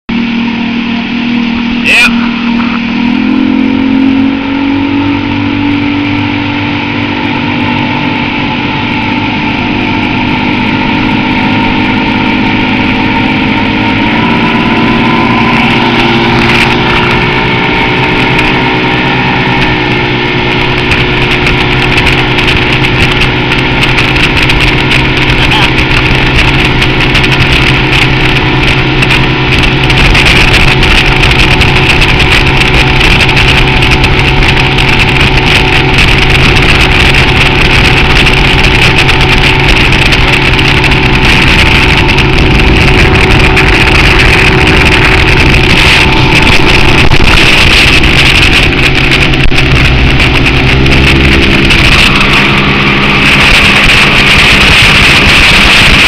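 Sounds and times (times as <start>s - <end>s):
outboard motor running: 0.0s - 56.0s
wake and spray rushing: 0.1s - 56.0s.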